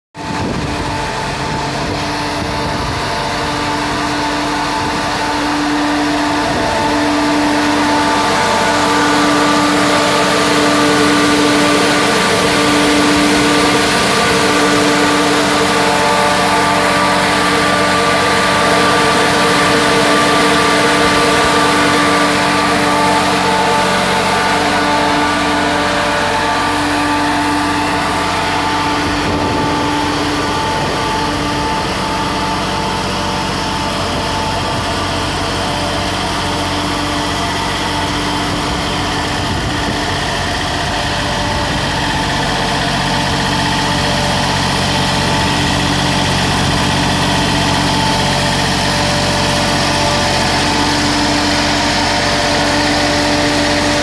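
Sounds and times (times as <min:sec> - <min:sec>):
diesel engine idling: 0:00.2 - 0:54.0.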